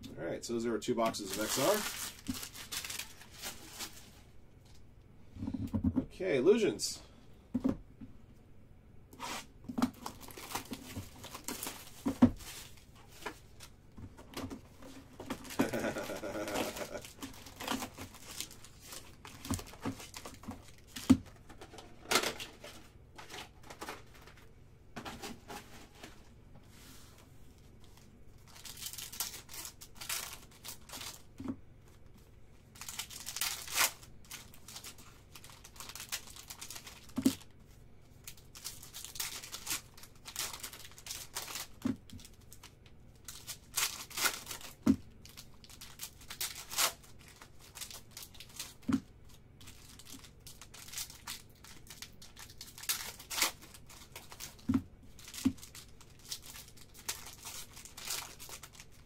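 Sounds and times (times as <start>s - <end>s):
foil wrappers crinkling: 0.8s - 4.2s, 9.9s - 24.5s, 27.7s - 31.4s, 32.7s - 59.0s.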